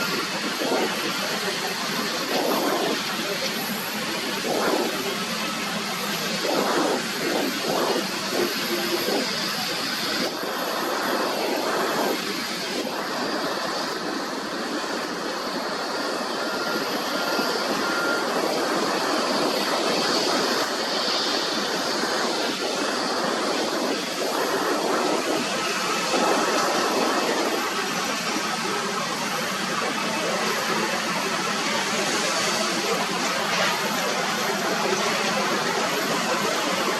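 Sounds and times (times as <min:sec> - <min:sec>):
jet airliner engines: 0:00.0 - 0:36.9.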